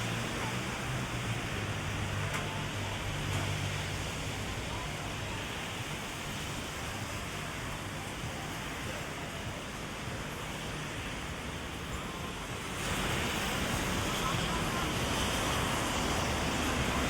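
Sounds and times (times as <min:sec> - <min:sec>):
heavy rain on umbrella and street: 0:00.0 - 0:17.0.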